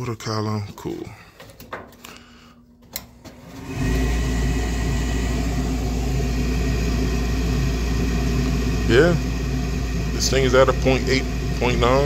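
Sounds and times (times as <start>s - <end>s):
furnace motor humming: 1.0s - 12.0s.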